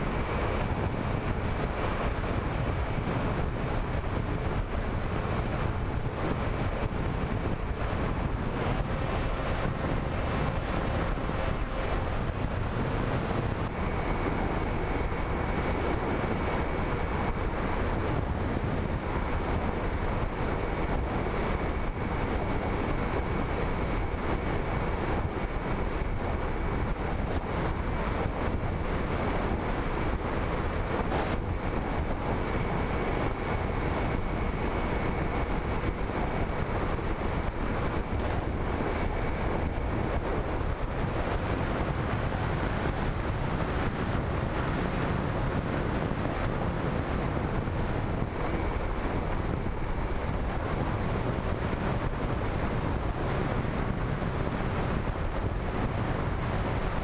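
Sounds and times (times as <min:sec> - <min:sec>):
motor and propeller whine: 0:00.0 - 0:57.0
wind rushing over microphone: 0:00.0 - 0:57.0.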